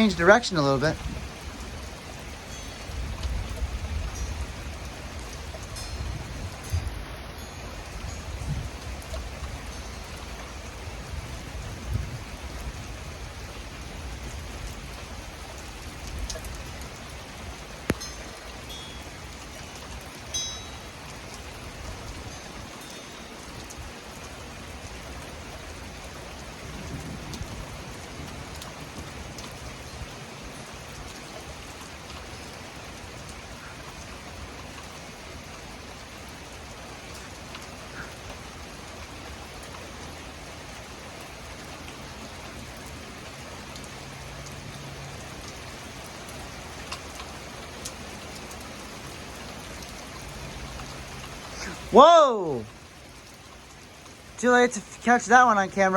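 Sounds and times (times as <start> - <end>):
rain drops tapping: 0.0 - 55.9
rain hissing: 0.0 - 55.9.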